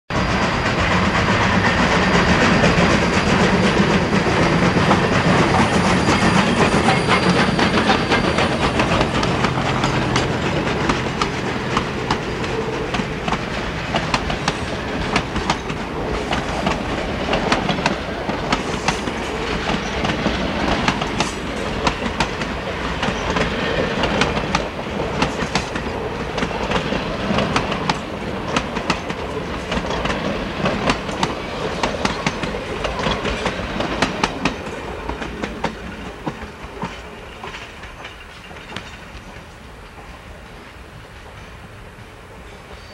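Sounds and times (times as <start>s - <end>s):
train wheels clattering over rail joints: 0.1s - 40.6s.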